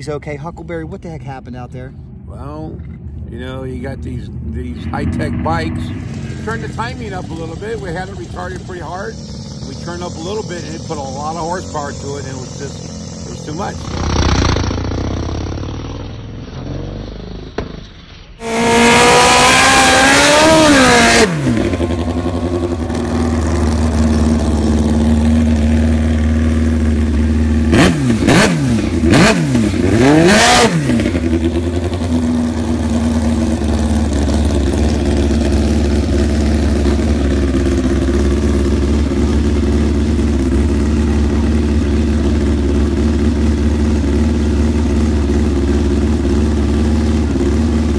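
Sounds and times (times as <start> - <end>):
motorcycle engine idling: 0.0 - 16.4, 18.4 - 47.9
motorcycle engine revving: 2.1 - 47.9.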